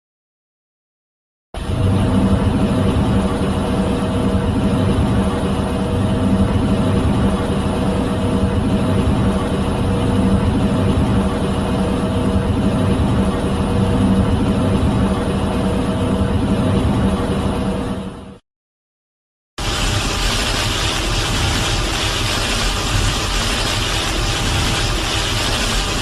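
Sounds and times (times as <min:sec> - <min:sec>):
heavy mechanical rumble: 0:01.6 - 0:18.4, 0:19.6 - 0:26.0.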